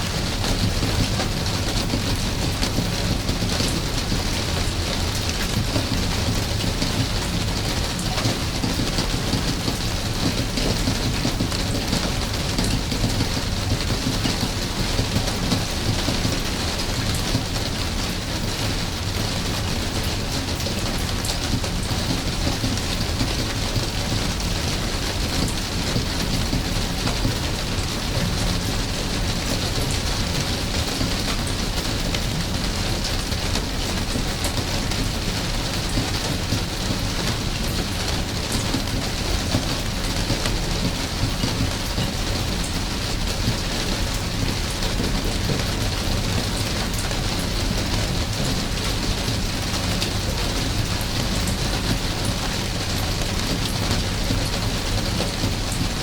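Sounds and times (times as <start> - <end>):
steady rain hiss: 0.0 - 56.0
raindrop ticks: 0.4 - 18.4, 19.4 - 56.0.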